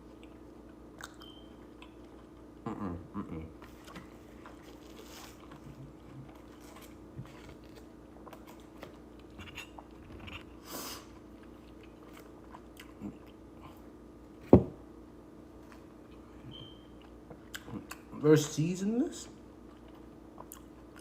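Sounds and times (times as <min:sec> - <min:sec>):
person chewing orange: 0:00.0 - 0:14.0, 0:15.6 - 0:18.2, 0:19.4 - 0:21.0
steady low hum: 0:00.0 - 0:21.0.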